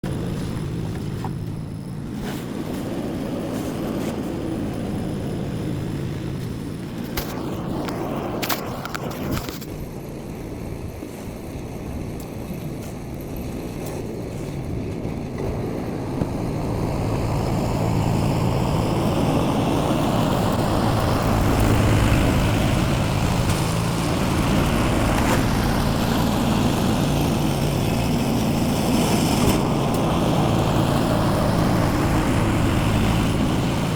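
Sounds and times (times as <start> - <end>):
snowblower engine running: 0.0 - 33.9.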